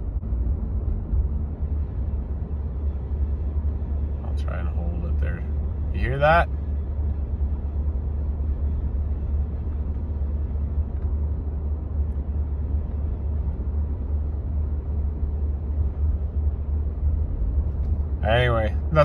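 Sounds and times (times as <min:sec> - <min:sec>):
engine and road drone: 0:00.0 - 0:19.0.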